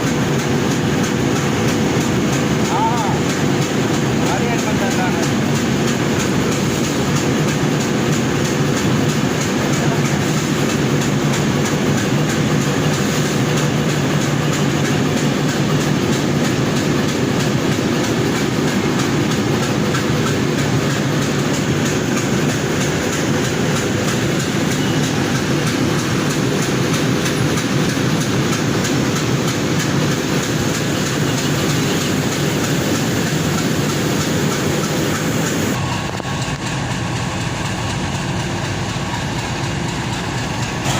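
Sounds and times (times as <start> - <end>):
train rumbling and rattling: 0.0 - 40.9.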